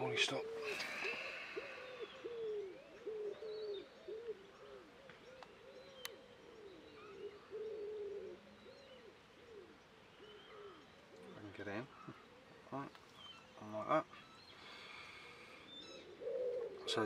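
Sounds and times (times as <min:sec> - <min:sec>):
birds cooing: 0:00.0 - 0:17.0
faint high bird chirps: 0:00.0 - 0:17.0.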